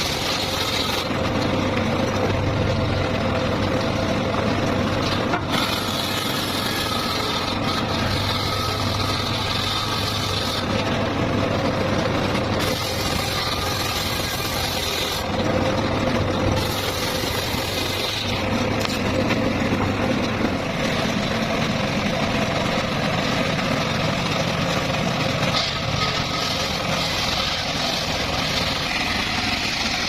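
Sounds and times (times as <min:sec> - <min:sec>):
circular saw cutting wood: 0:00.0 - 0:30.0.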